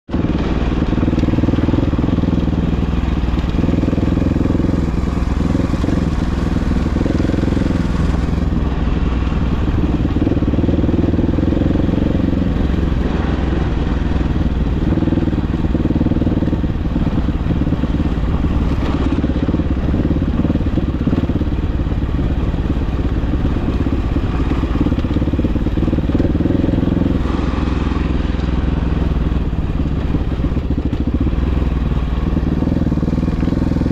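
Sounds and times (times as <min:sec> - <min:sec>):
off-road vehicle engine running: 0:00.0 - 0:33.9.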